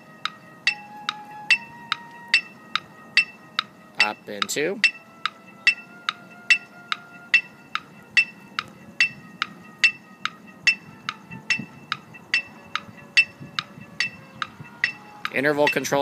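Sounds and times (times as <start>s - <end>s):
metronome clicking: 0.0s - 16.0s.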